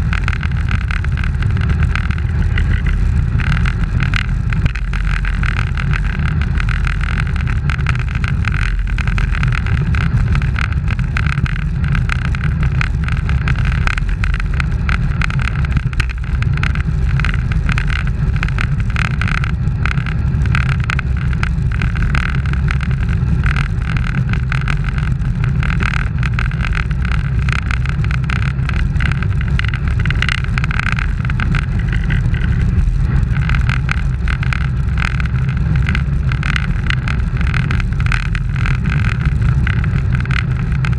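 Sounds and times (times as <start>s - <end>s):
low road rumble: 0.0s - 40.9s.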